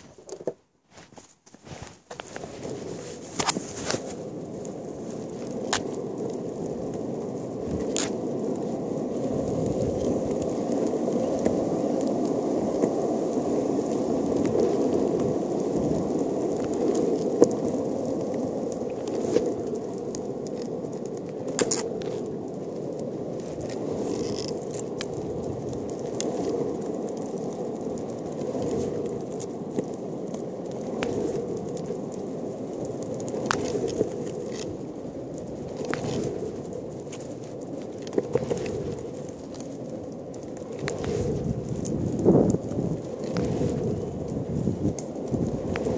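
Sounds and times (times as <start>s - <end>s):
longboard wheels rolling on asphalt: 0.0s - 45.9s.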